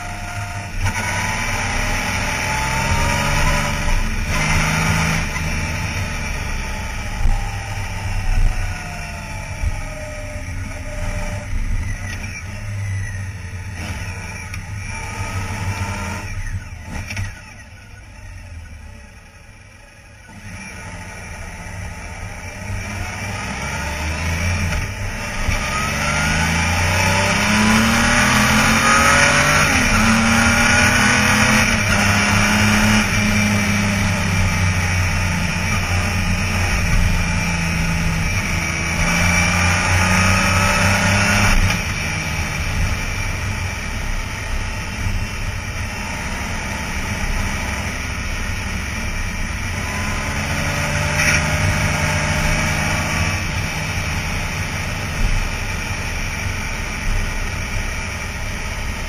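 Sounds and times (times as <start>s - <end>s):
motorcycle engine: 0.0s - 59.0s
rush of road noise: 0.0s - 59.0s.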